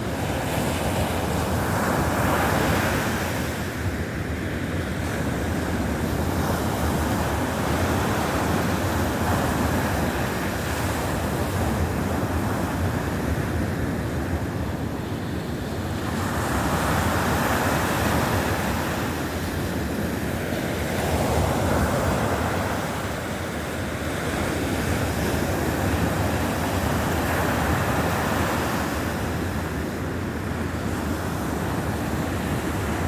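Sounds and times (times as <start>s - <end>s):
waves breaking on shore: 0.0s - 33.0s.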